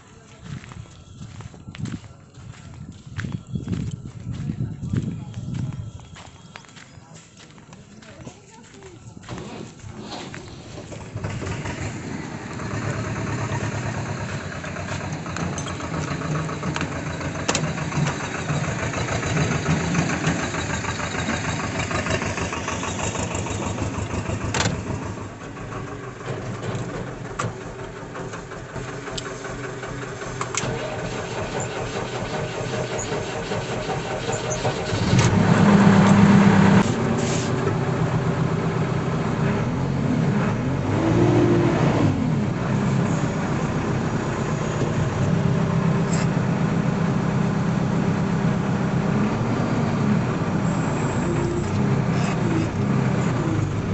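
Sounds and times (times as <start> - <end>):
another engine running: 0.0 - 53.9
diesel engine cranking and running: 0.0 - 53.9.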